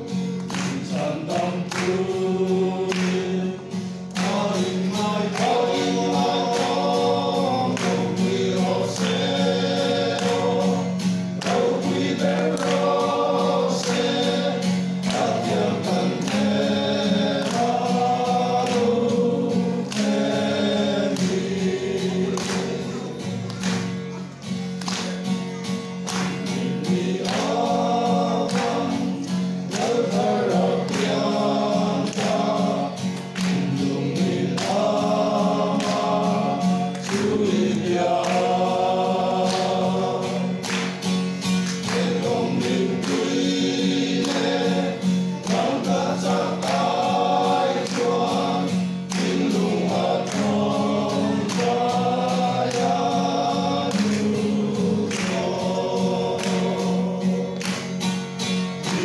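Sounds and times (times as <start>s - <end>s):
men singing a hymn: 0.0s - 23.6s, 26.2s - 59.0s
rhythmic strikes: 0.0s - 59.0s.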